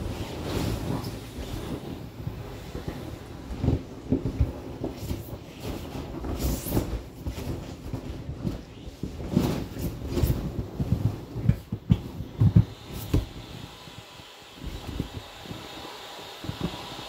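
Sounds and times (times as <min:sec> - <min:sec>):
inflatable vinyl creaking and squeaking: 0:00.0 - 0:13.7
rubs and soft thumps on vinyl: 0:00.0 - 0:13.7.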